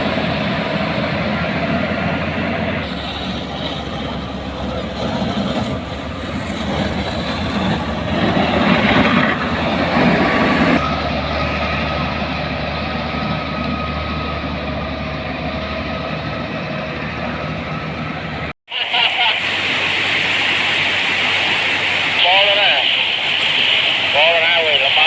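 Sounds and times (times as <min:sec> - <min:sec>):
heavy construction machinery engine: 0:00.0 - 0:25.0.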